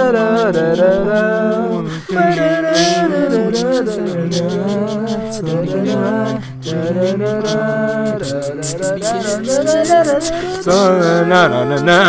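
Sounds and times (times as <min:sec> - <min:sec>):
layered a cappella wordless vocals: 0:00.0 - 0:12.0.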